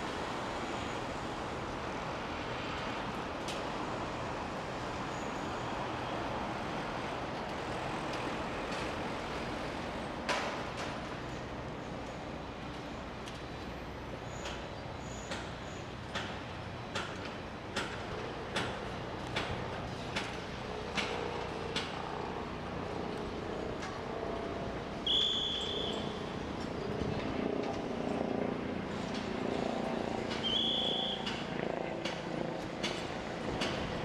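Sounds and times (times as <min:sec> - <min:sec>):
machinery hum: 0:00.0 - 0:34.0.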